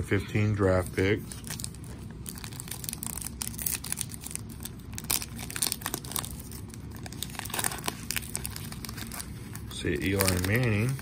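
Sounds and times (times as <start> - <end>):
foil wrapper tearing and crinkling: 0.9 - 11.0.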